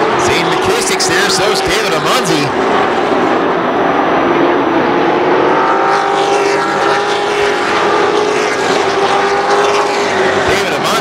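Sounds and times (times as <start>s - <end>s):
racing truck engines running hard: 0.0s - 11.0s.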